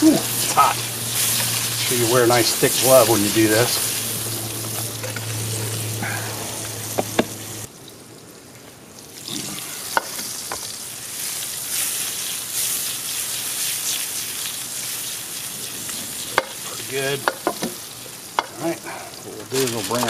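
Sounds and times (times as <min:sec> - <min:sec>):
mushrooms sizzling in a skillet: 0:00.0 - 0:07.7, 0:09.2 - 0:20.0.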